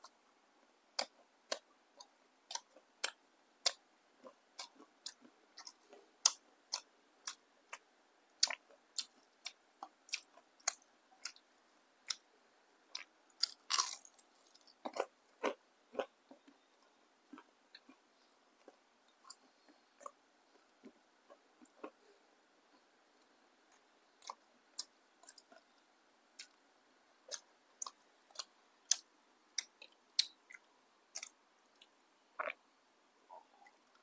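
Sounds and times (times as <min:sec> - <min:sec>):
crunchy fritter being chewed: 0:00.9 - 0:32.6.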